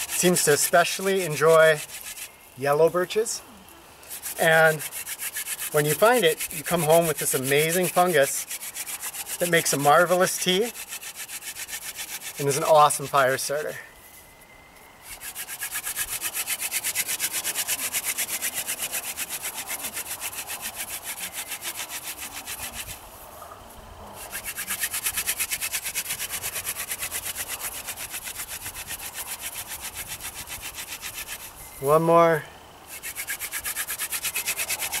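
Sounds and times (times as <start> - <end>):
hand drill rasping on wood: 0.0 - 2.4, 4.0 - 13.1, 15.0 - 23.0, 24.2 - 31.6, 32.9 - 35.0.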